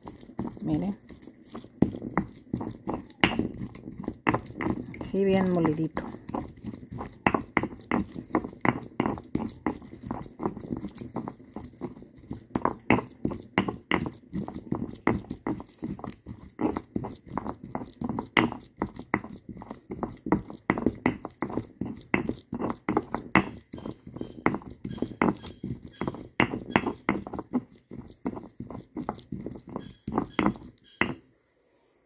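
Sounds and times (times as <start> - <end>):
stone pestle grinding: 0.0 - 31.2.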